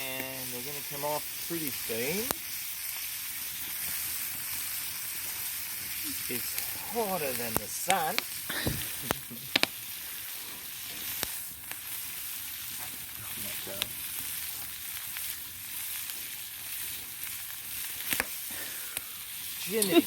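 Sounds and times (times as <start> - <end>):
prawns sizzling in butter: 0.0 - 20.0
sharp pops: 2.2 - 10.0, 10.8 - 20.0.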